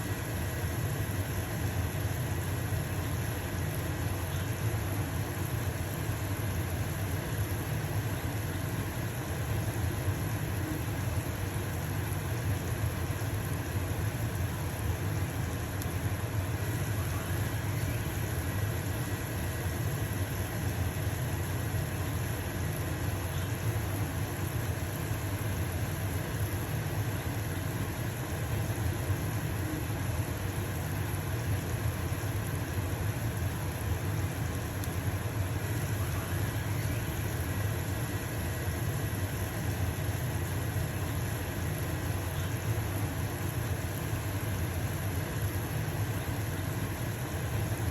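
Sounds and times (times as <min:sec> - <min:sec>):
pancake sizzling in a pan: 0:00.0 - 0:47.9
range hood fan humming: 0:00.0 - 0:47.9.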